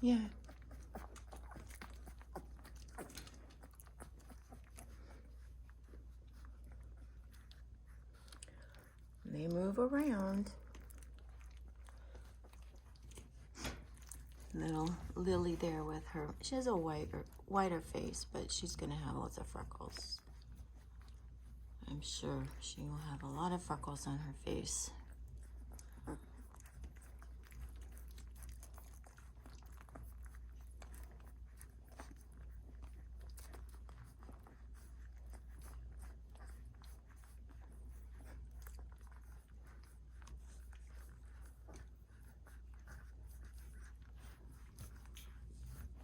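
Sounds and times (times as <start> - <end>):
low steady hum: 0.0 - 46.0
puppies suckling wet clicks: 0.0 - 46.0.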